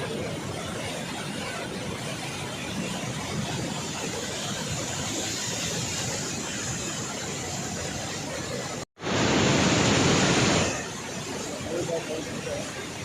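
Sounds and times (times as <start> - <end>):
water rushing through spillway: 0.0 - 13.0.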